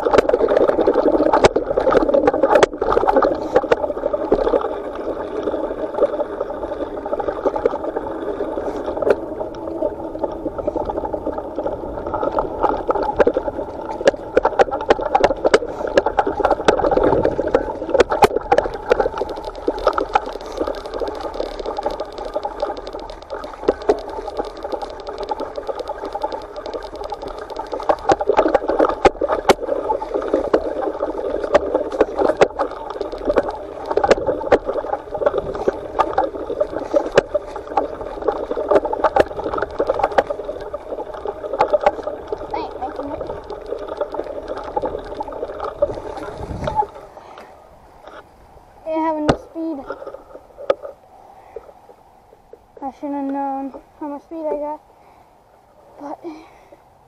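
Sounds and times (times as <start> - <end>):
rolling bike tyres and wind: 0.0 - 57.0.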